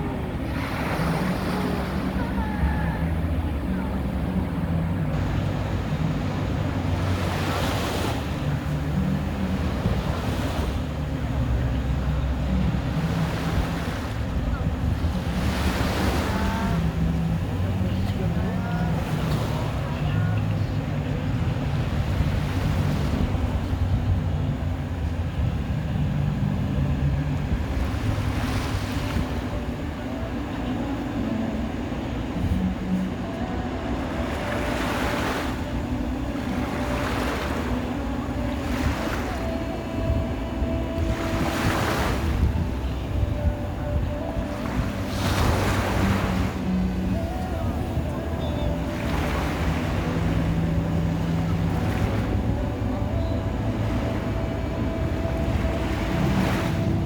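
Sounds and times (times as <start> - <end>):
sea waves breaking: 0.0 - 57.0
wind rumble on microphone: 0.0 - 57.0.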